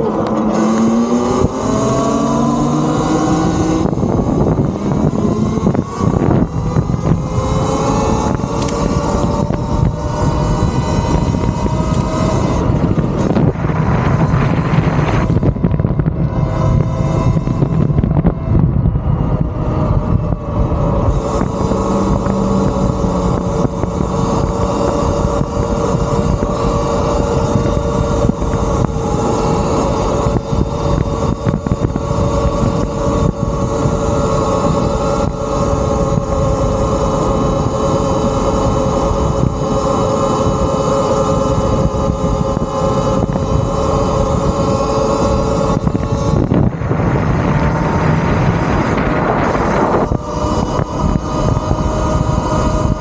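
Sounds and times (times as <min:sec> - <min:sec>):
electric motor whine: 0:00.0 - 0:53.0
wind rumble on microphone: 0:00.0 - 0:53.0.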